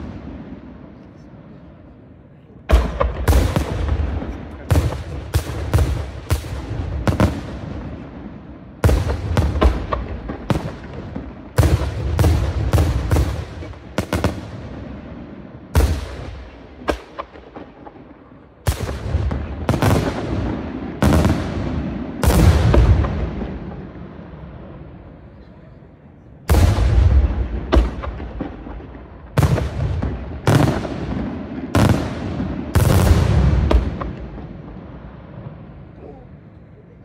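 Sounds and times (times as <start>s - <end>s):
firework bangs with echo: 0.0s - 1.0s, 2.6s - 25.1s, 26.5s - 36.0s.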